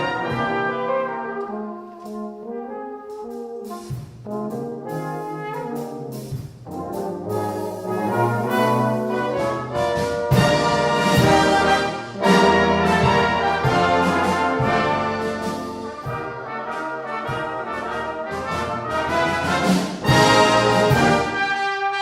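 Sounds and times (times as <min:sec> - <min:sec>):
brass band playing slow chords: 0:00.0 - 0:22.0.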